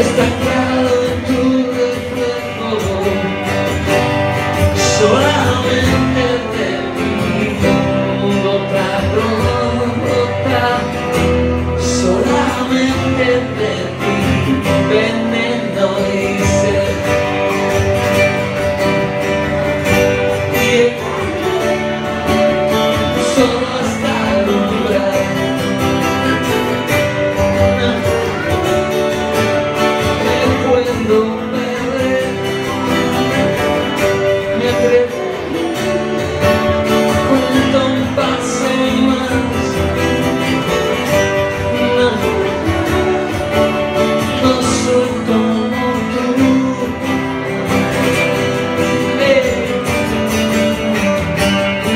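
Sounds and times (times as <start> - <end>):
pop-rock song with guitars: 0.0 - 51.9.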